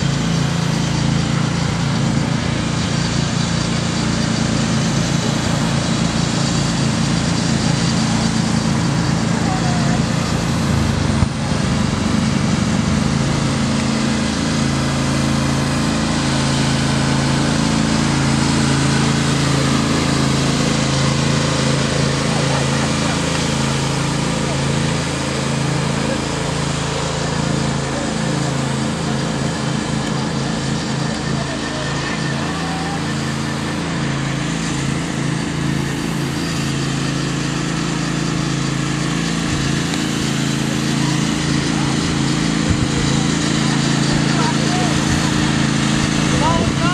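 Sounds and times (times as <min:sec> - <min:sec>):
lawn tractor engine running: 0:00.0 - 0:46.9.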